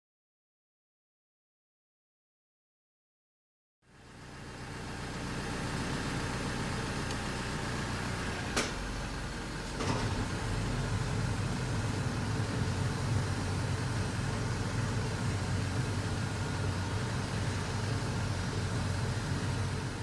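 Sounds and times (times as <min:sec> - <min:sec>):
truck engine running: 0:03.9 - 0:20.0.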